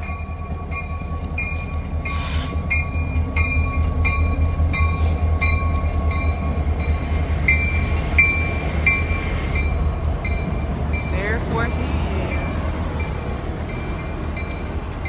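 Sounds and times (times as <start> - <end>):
train rumbling past: 0.0 - 15.0
wheels clicking over rail joints: 0.0 - 15.0.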